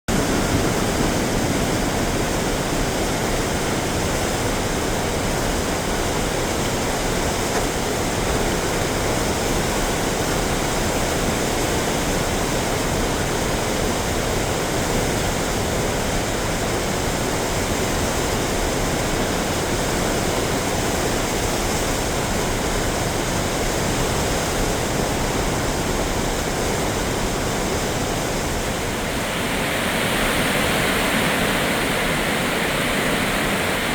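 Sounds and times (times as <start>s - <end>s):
river rushing: 0.1s - 33.9s.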